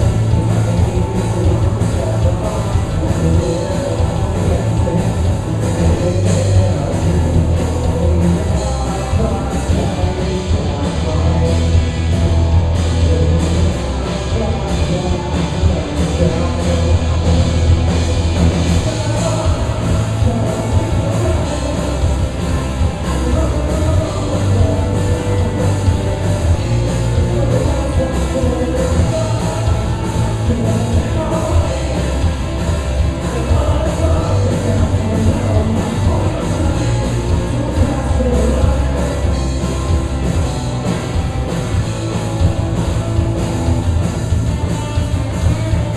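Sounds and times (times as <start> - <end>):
drums driving beat: 0.0 - 45.9
rock band playing live: 0.0 - 45.9.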